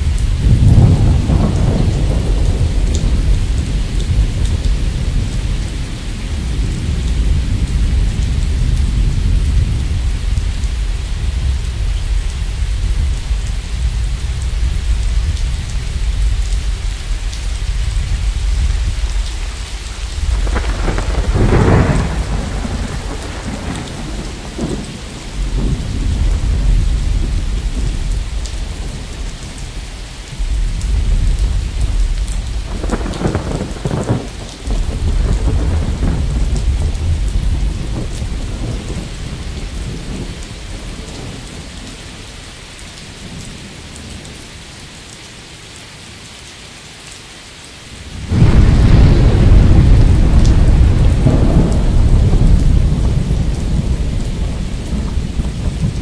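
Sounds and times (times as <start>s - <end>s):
thunder rumbling: 0.0s - 42.1s, 48.0s - 56.0s
steady rain falling: 0.0s - 56.0s.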